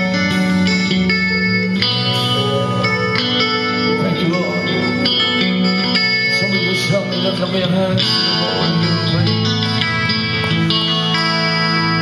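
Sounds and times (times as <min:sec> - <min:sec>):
electric guitar playing chords: 0:00.0 - 0:12.0.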